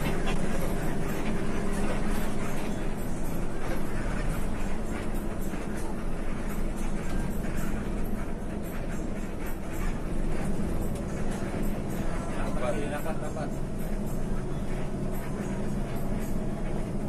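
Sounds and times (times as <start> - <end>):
bus engine drone: 0.0 - 17.0
road noise: 0.0 - 17.0.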